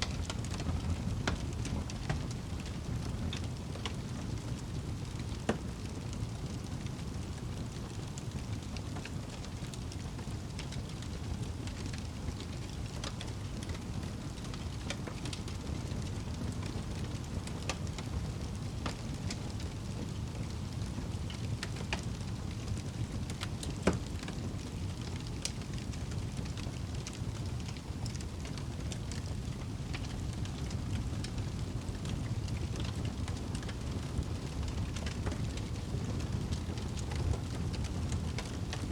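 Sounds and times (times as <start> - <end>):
fire crackles and pops: 0.0 - 38.9
fire rumbling: 0.0 - 38.9.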